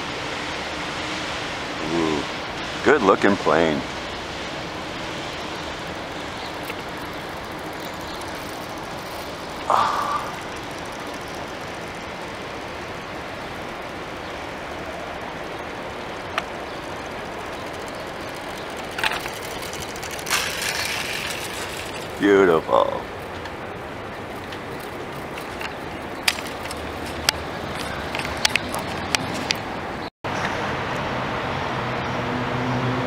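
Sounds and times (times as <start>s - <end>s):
distant city traffic: 0.0s - 33.0s.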